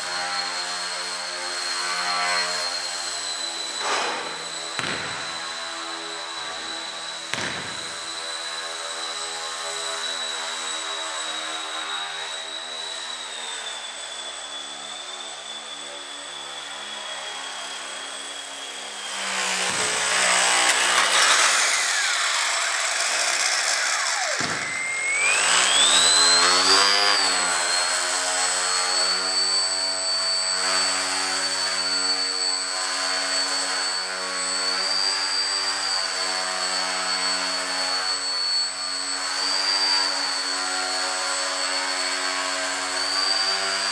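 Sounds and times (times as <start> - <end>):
electric motor and propeller whine: 0.0 - 43.9.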